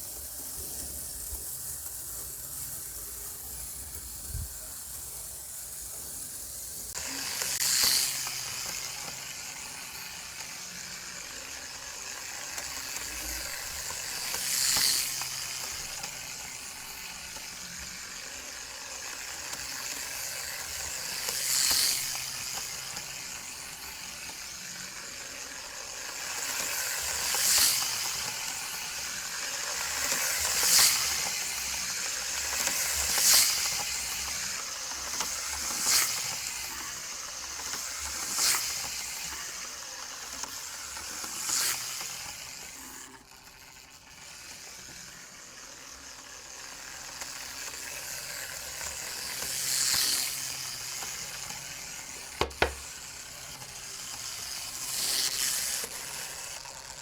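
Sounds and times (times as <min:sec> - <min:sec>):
model train whirring on track: 0:00.0 - 0:57.0.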